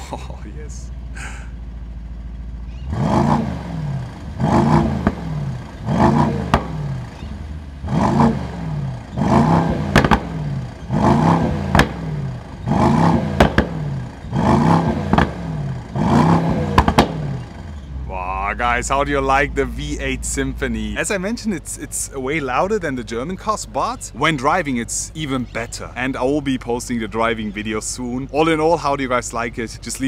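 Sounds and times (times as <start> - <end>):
sharp exhaust cracks: 0.0 - 28.0
car engine revving: 0.0 - 29.4.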